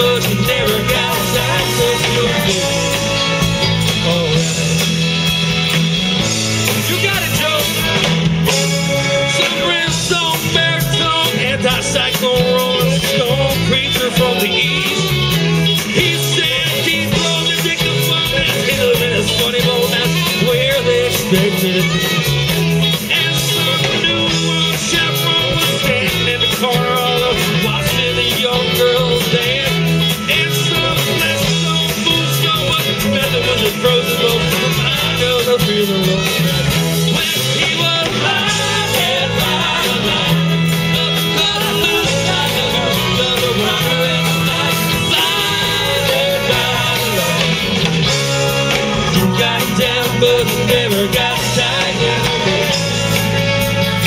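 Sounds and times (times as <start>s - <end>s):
lead singer singing: 0.0s - 54.0s
live rock band playing: 0.0s - 54.0s.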